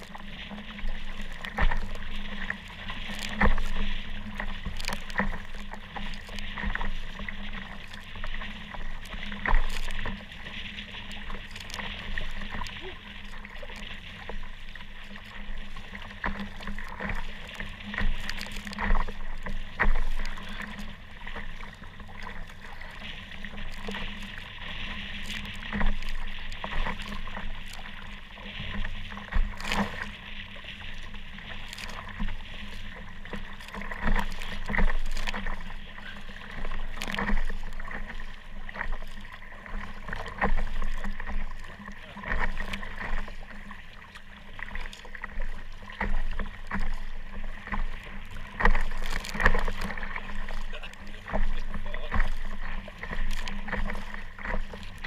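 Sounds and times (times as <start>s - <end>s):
waves splashing against kayak hull: 0.0s - 55.0s.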